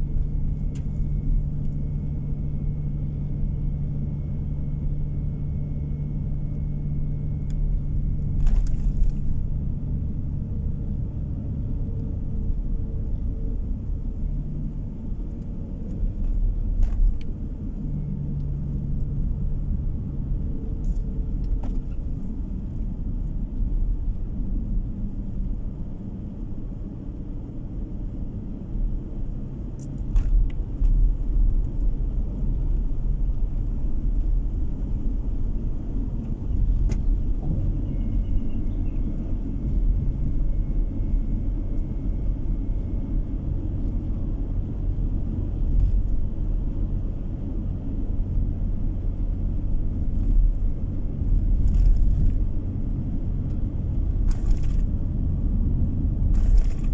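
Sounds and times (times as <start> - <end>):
car tyres and engine rumble: 0.0 - 56.9.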